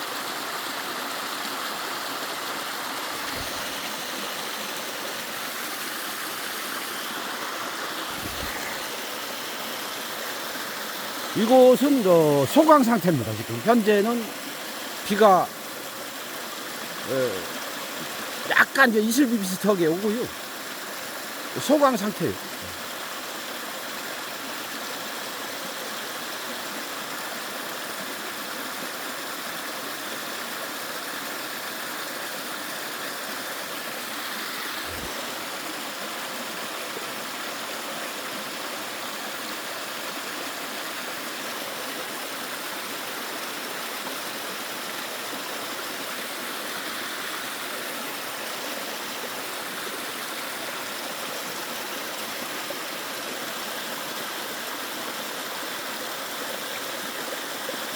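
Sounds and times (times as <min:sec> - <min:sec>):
stream rushing water: 0:00.0 - 0:57.9.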